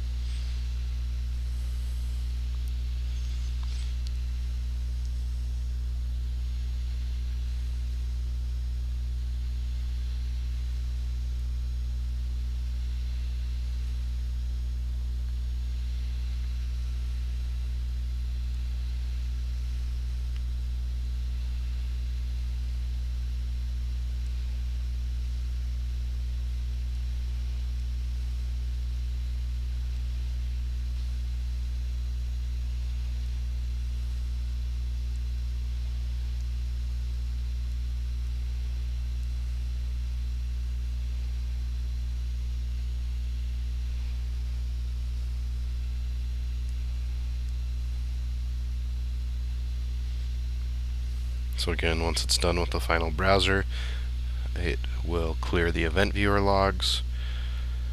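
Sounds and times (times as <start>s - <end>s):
faint hiss: 0.0s - 57.9s
low electrical hum: 0.0s - 57.9s.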